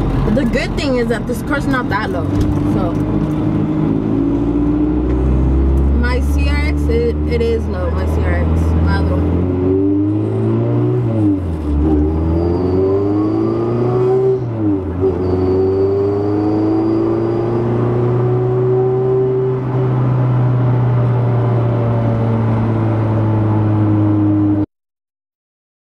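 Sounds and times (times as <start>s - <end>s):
car engine revving under way: 0.0s - 24.6s.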